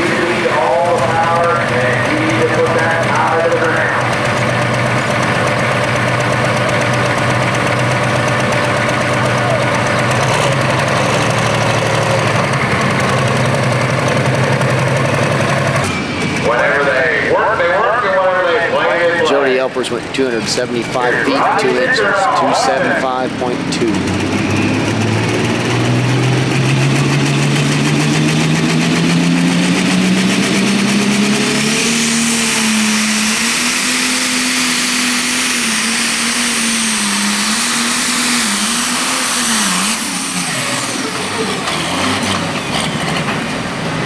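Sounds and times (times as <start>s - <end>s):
diesel tractor engine under load: 0.0s - 44.0s.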